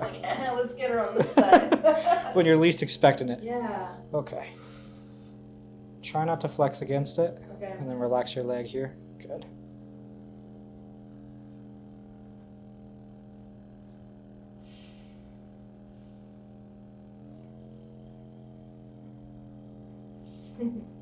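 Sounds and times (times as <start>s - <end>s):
massager motor humming: 0.0s - 21.0s.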